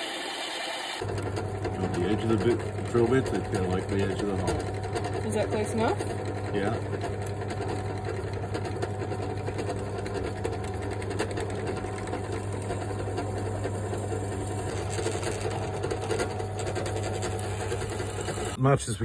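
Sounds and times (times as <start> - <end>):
drill press drilling metal: 0.0 - 18.6.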